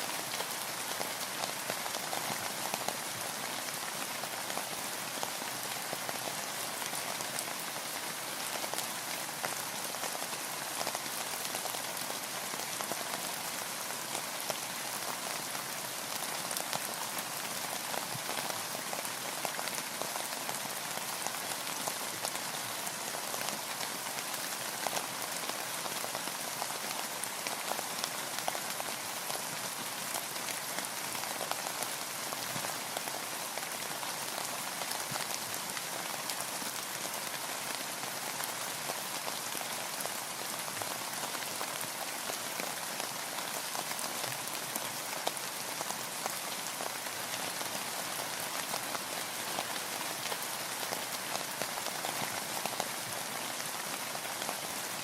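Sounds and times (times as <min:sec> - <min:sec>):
rain falling on a boat: 0:00.0 - 0:55.0.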